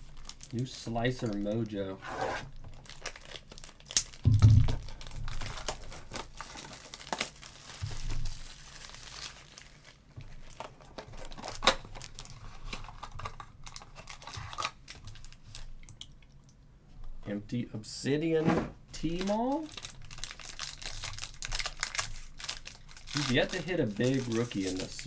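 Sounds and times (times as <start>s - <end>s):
plastic wrap crinkling and tearing: 0.0s - 1.8s, 2.4s - 15.8s, 19.0s - 25.0s.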